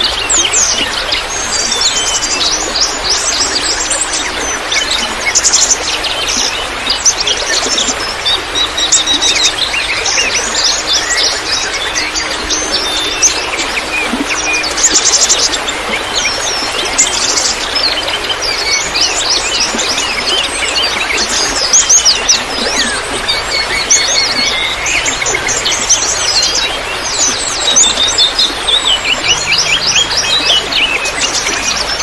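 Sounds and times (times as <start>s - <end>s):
songbirds chirping and twittering: 0.0s - 32.0s
trickling water: 0.0s - 32.0s.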